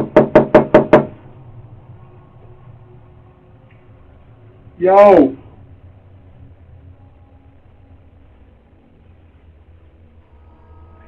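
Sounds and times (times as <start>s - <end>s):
faint low hum and hiss: 1.2s - 11.0s.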